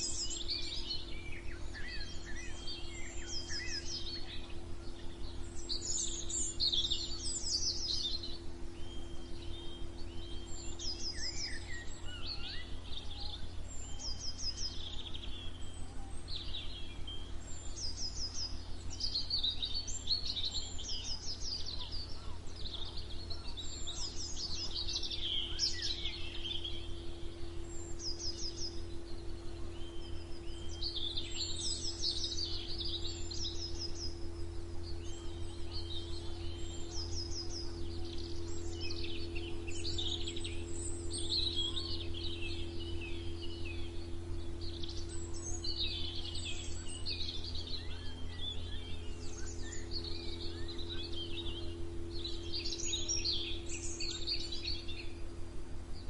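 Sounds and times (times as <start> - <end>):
songbirds singing and chirping: 0.0 - 56.0
steady low hum: 0.0 - 56.0.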